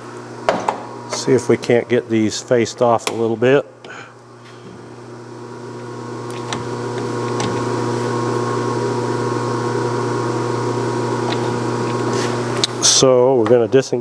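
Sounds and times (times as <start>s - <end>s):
metal lathe humming: 0.0s - 13.5s.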